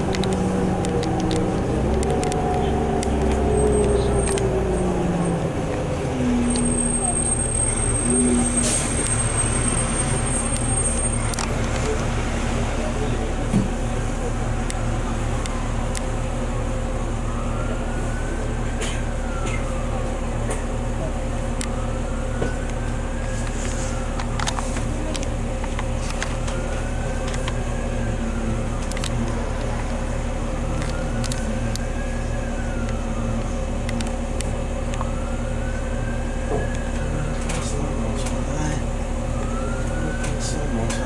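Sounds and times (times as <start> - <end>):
bus diesel engine idling: 0.0 - 41.0.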